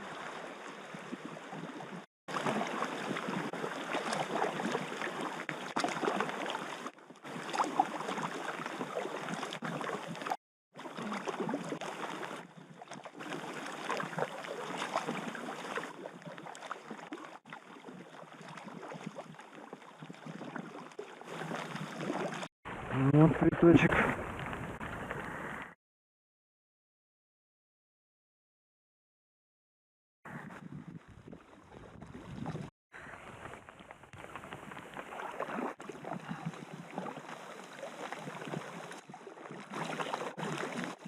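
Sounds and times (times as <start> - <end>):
river water splashing and rushing: 0.0 - 25.7, 33.0 - 41.0.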